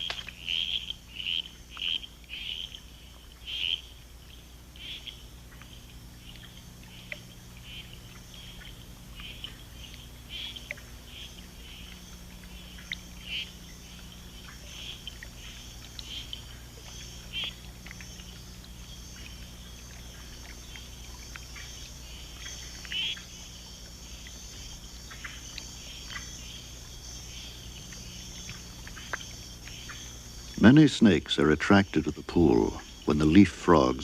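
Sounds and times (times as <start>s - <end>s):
faint low hum: 0.0s - 34.0s
tree frogs chirping: 0.0s - 34.0s.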